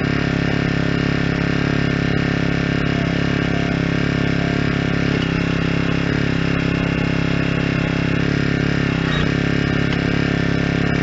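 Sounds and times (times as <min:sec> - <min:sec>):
small engine running under load: 0:00.0 - 0:11.0.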